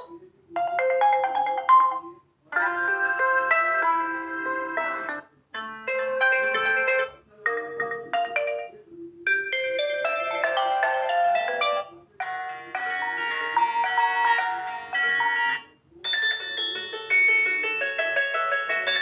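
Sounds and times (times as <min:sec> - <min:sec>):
smartphone ringtone melodies: 0:00.0 - 0:08.7, 0:09.3 - 0:19.0.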